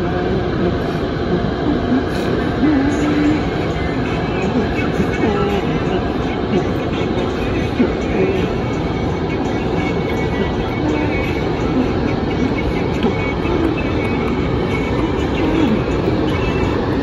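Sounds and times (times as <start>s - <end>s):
rumble of train wheels on rail: 0.0s - 17.0s.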